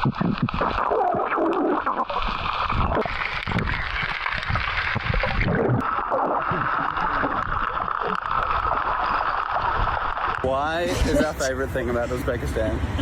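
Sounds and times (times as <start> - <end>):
rushing splashing water: 0.0 - 11.8.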